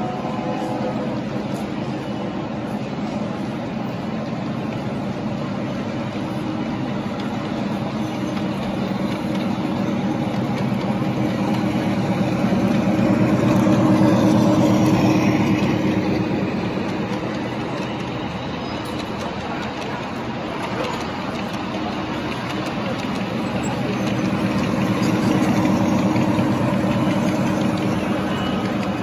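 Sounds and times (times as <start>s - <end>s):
model train rolling rumble: 0.0s - 29.0s.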